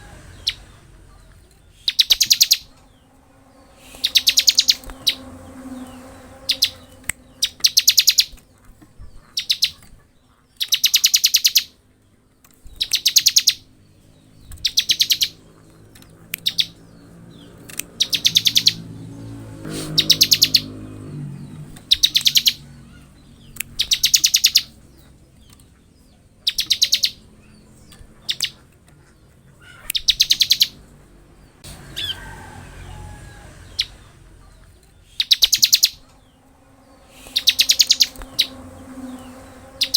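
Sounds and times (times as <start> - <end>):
bird singing rapid trills: 0.1 - 11.8, 12.6 - 30.9, 33.6 - 39.9.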